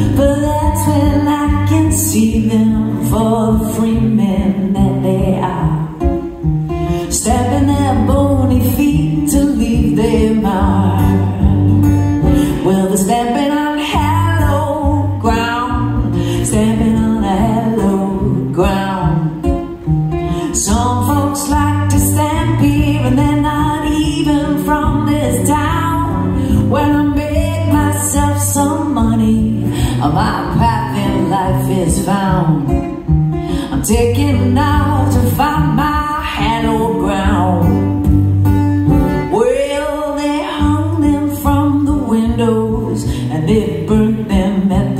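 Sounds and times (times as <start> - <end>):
acoustic guitar strumming: 0.0 - 44.9
woman singing: 0.0 - 44.9.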